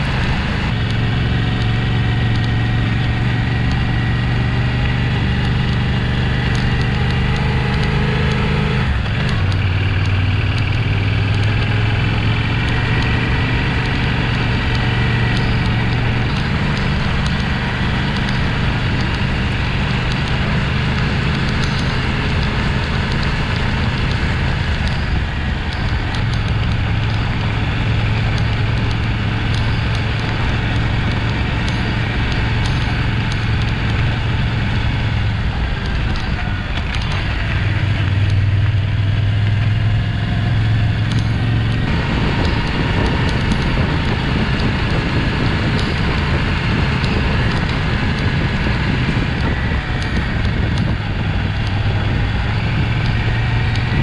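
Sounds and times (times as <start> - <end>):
motorcycle engine running: 0.0 - 54.0
tyres on gravel road: 0.0 - 54.0
wind noise: 0.0 - 54.0.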